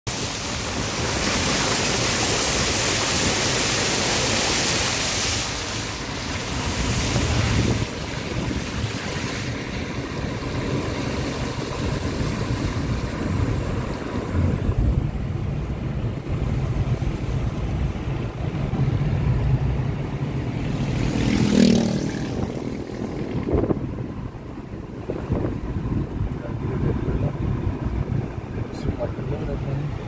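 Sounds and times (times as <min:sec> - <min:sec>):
wind noise: 0:00.1 - 0:30.0.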